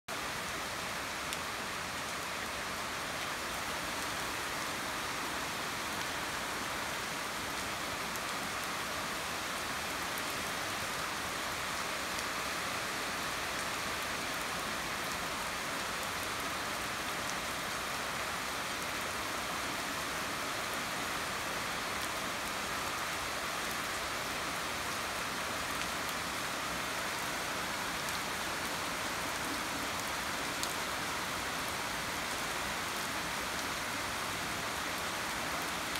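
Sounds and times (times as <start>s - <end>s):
rain falling on leaves: 0.1s - 35.9s.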